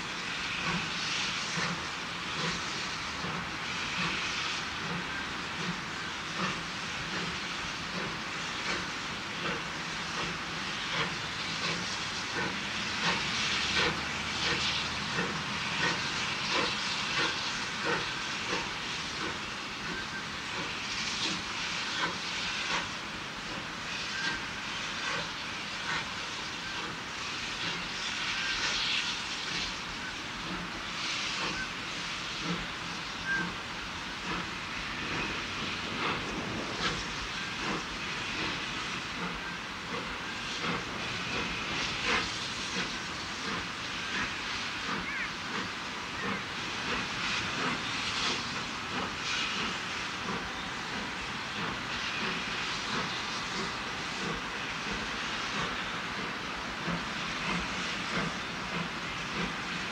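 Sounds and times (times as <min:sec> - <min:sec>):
steady hiss of steam: 0:00.0 - 0:59.9
steam locomotive chuffing: 0:00.0 - 0:59.9.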